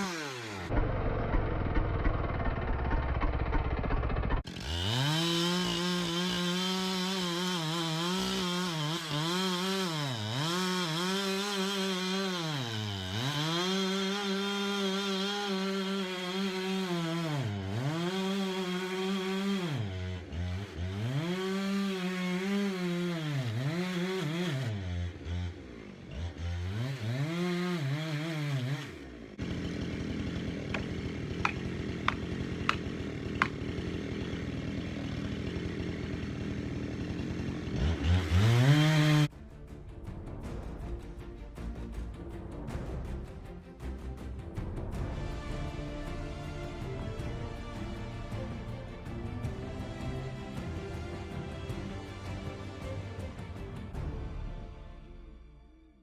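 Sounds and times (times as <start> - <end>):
chainsaw cutting at high revs: 0.0 - 39.3, 45.3 - 53.8.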